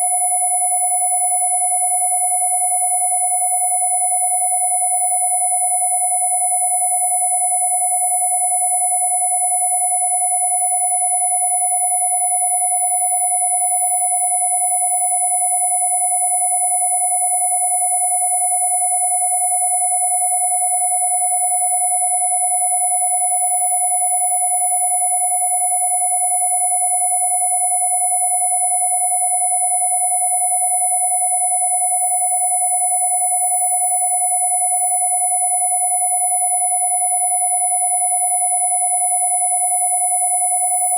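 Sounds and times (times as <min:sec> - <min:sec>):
mid-pitched sine tone: 0:00.0 - 0:40.9
very high sine tone: 0:00.0 - 0:40.9.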